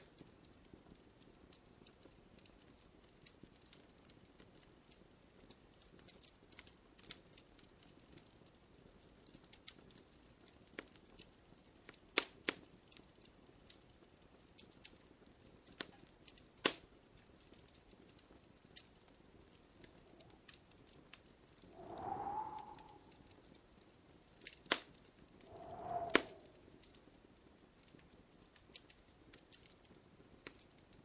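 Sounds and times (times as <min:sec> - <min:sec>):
faint fire hiss: 0:00.0 - 0:31.0
wood fire crackling: 0:00.0 - 0:31.0.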